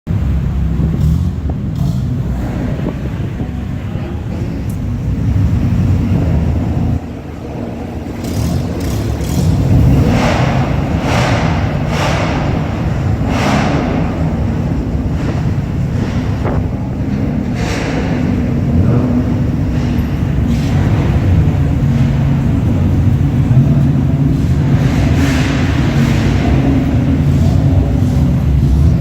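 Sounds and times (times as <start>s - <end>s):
cars driving off: 0.1s - 29.0s
cars going by: 0.1s - 29.0s.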